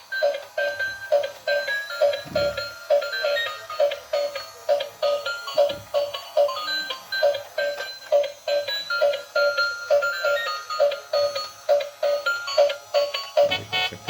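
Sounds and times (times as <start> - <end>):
toy car electronic beeping tune: 0.0 - 14.0.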